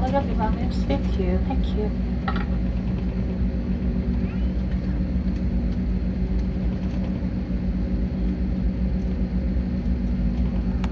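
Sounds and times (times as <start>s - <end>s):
airplane cabin rumble: 0.0s - 10.9s
engine and air-conditioning hum: 0.0s - 10.9s.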